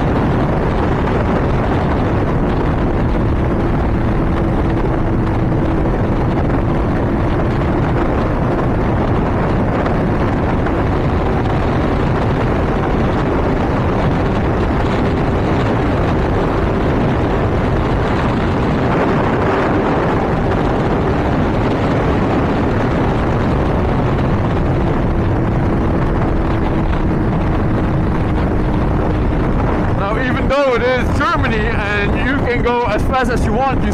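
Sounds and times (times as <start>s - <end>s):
motorcycle engine high steady note: 0.0s - 33.9s
wind rush on microphone: 0.0s - 33.9s.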